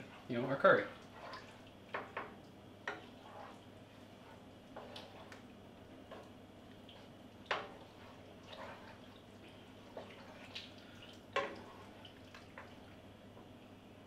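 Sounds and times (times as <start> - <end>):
stirring wet sauce in pan: 0.0 - 14.0.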